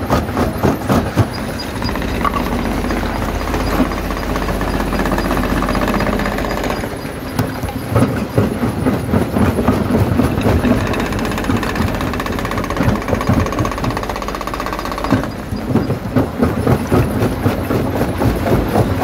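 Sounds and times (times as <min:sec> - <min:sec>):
crusher machine hum: 0:00.0 - 0:19.0.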